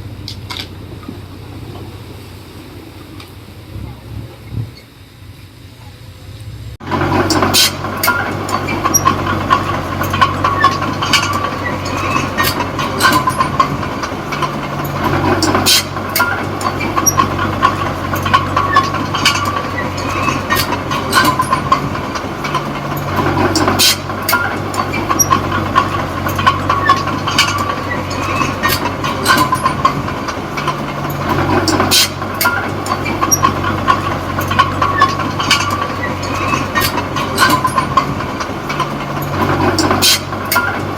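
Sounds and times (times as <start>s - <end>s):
steel tracks clanking: 0.0s - 5.0s, 5.8s - 40.9s
bulldozer diesel engine under load: 0.0s - 40.9s
steady squeal: 6.9s - 40.9s.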